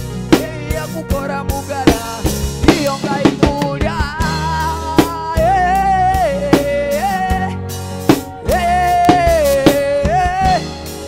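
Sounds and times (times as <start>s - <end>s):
drum kit beat: 0.0s - 11.0s
live band playing: 0.0s - 11.0s
sliding held melody line: 0.5s - 10.8s.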